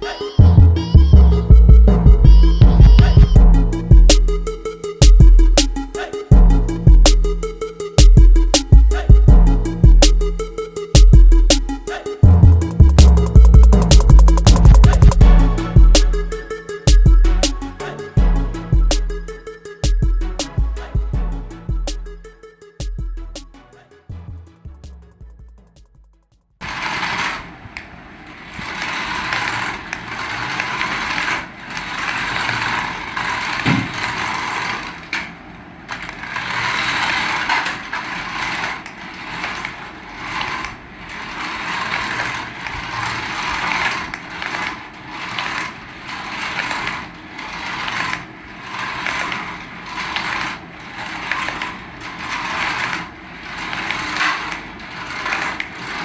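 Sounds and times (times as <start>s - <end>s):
toy car motor whirring: 0.0s - 1.6s, 2.3s - 23.8s, 28.4s - 35.2s, 35.9s - 56.0s.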